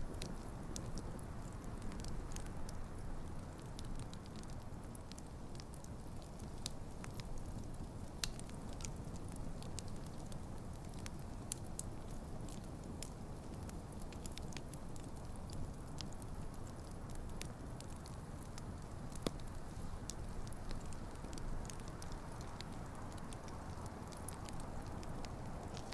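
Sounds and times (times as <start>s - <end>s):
burning logs crackling and popping: 0.0s - 25.9s
campfire flames rumbling: 0.0s - 25.9s.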